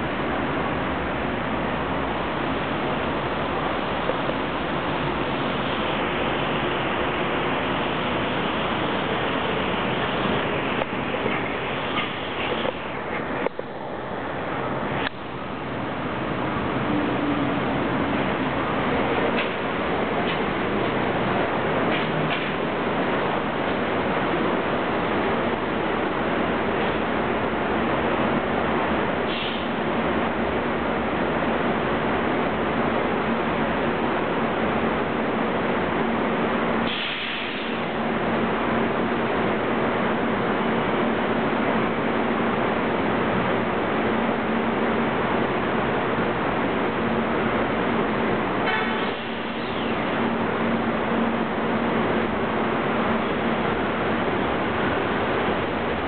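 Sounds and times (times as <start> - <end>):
rushing city background noise: 0.0 - 56.0.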